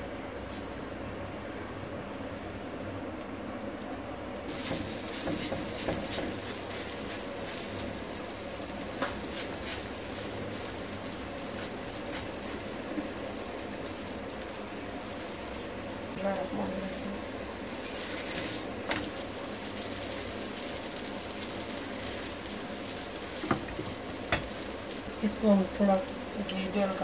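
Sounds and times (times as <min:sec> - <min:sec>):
flatbread sizzling on griddle: 0:04.5 - 0:27.0.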